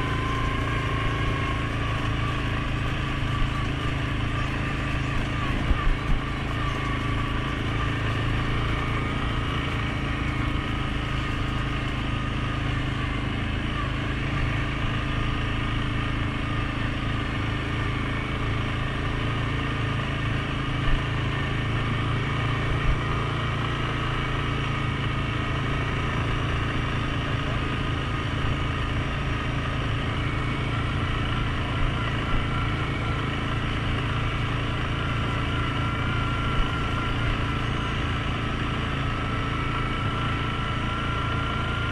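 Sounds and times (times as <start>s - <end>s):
atv engine running steadily: 0.0s - 41.9s.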